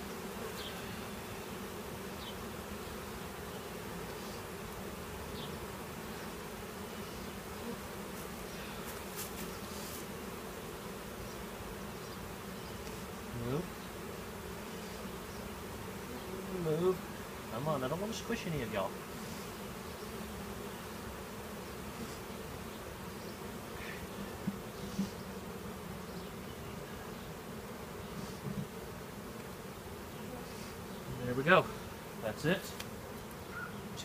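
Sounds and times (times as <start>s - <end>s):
honeybees buzzing: 0.0s - 34.0s
single loud bee buzz: 0.0s - 34.0s.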